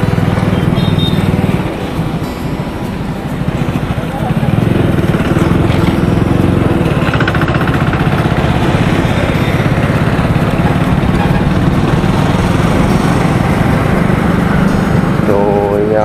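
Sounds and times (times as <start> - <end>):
motorcycle engine putter: 0.0 - 13.7.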